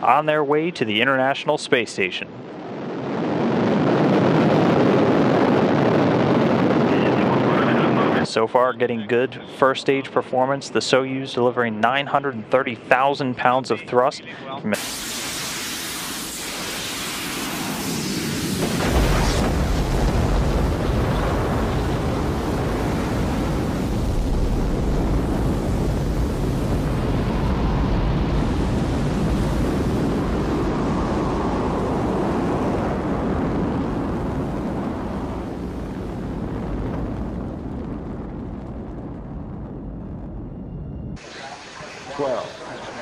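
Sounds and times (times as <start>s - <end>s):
rocket engines rumbling: 0.0s - 43.0s.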